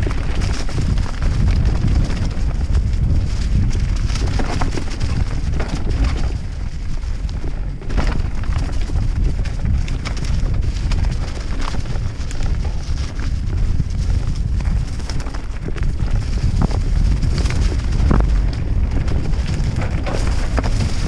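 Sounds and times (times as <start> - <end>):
bike rattling over rocks: 0.0 - 21.0
bike tyres rumbling: 0.0 - 21.0
wind on microphone: 0.0 - 21.0.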